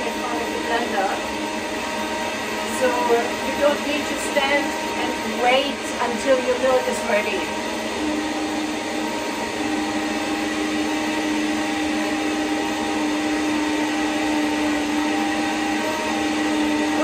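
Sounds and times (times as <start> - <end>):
blender running: 0.0 - 17.0.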